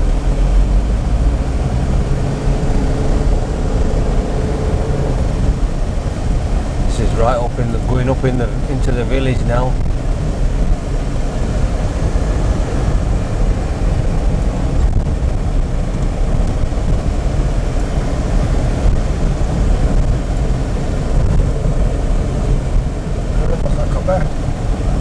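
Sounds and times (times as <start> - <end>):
car engine: 0.0 - 25.0
road rumble: 0.0 - 25.0.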